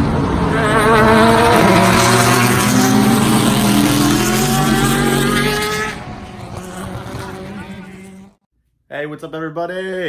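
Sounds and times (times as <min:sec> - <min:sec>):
car engine accelerating: 0:00.0 - 0:08.4.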